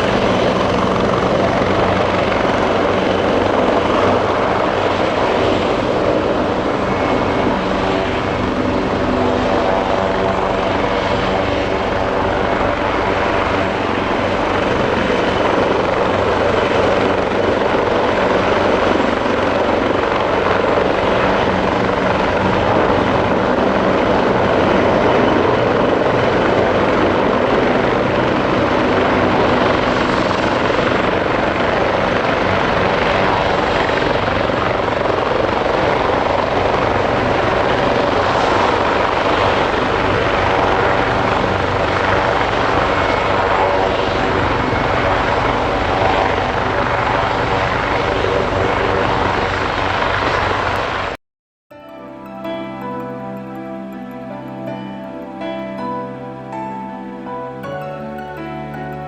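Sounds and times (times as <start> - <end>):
helicopter engine whine: 0.0 - 51.2
helicopter rotor beat: 0.0 - 51.2.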